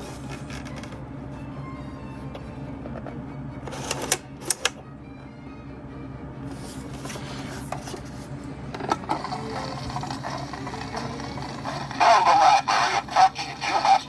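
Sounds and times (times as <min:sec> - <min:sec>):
faint music: 0:00.0 - 0:14.0
steady low hum: 0:00.0 - 0:14.0.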